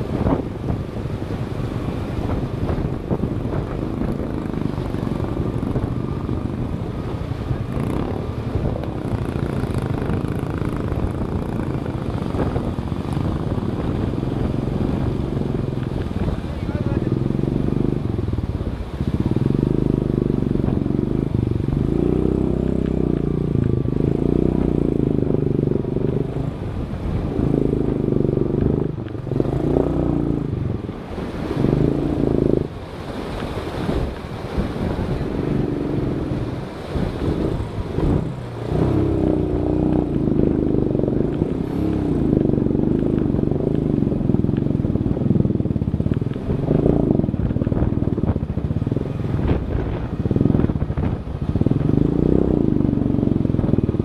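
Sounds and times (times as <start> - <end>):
vehicle engine running under load: 0.0 - 54.0.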